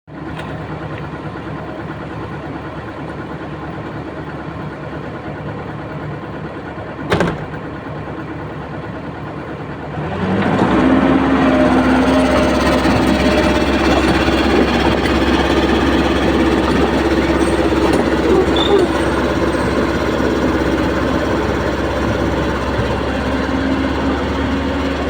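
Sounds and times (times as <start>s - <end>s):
excavator diesel engine idling: 0.1s - 25.0s.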